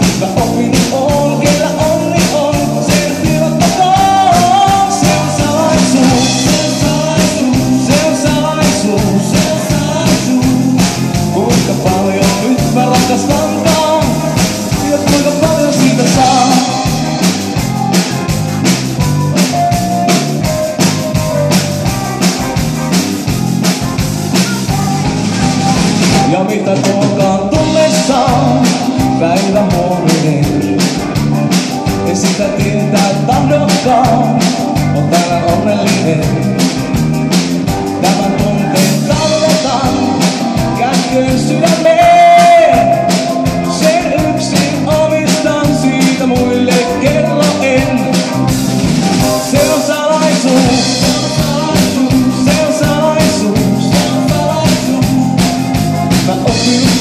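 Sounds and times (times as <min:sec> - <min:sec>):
man singing into a microphone: 0:00.0 - 0:18.2, 0:26.0 - 0:37.0, 0:37.8 - 0:57.0
live band playing: 0:00.0 - 0:57.0.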